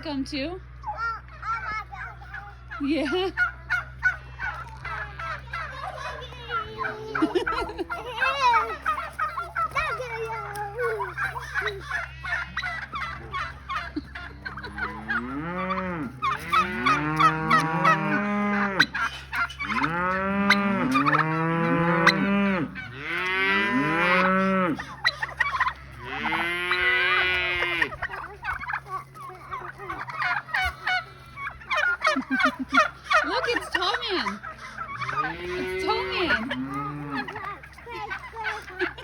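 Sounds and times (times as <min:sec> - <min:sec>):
farm animals calling: 0:00.0 - 0:39.0.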